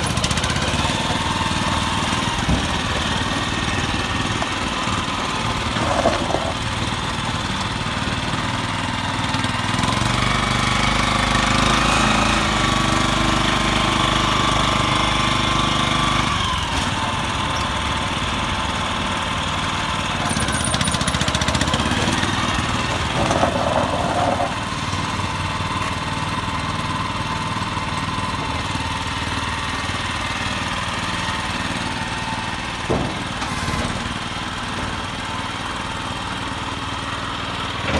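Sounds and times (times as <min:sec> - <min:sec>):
truck engine idling with clatter: 0:00.0 - 0:37.9.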